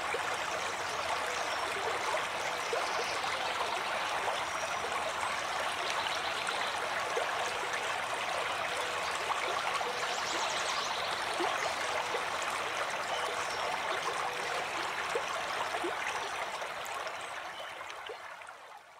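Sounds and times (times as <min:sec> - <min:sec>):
flowing water rushing: 0:00.0 - 0:18.8.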